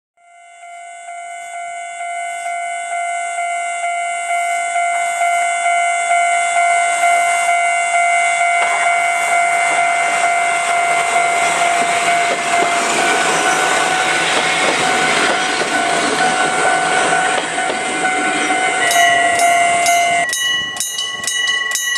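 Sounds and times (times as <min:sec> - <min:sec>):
level crossing alarm ringing: 0:00.2 - 0:21.9
diesel railcar passing: 0:00.4 - 0:21.9.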